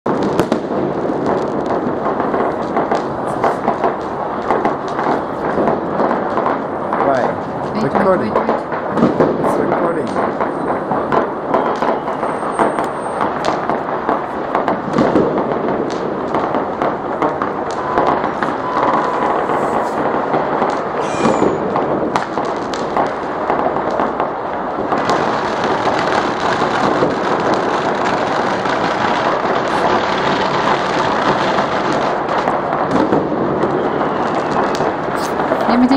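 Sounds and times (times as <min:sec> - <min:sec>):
distant firecrackers popping: 0:00.0 - 0:35.9.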